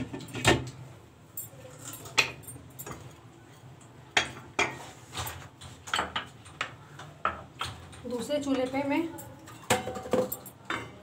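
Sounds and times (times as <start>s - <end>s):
cookware clicks and clinks: 1.4s - 4.8s, 5.4s - 11.0s.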